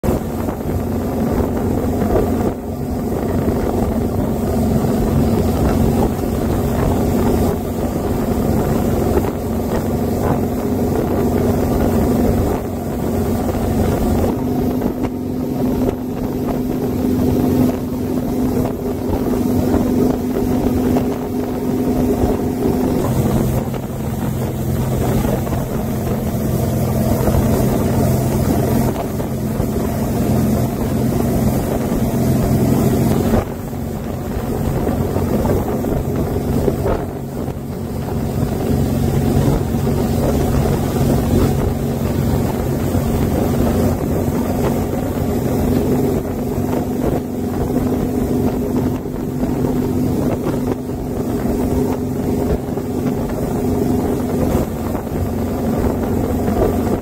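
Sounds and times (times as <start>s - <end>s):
boat engine running: 0.0s - 57.0s
wind on microphone: 0.0s - 57.0s.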